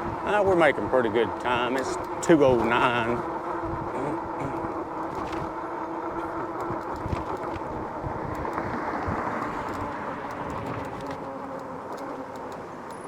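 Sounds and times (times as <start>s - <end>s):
electric hub motor hum: 0.0s - 13.0s
tyre noise on road: 0.0s - 13.0s.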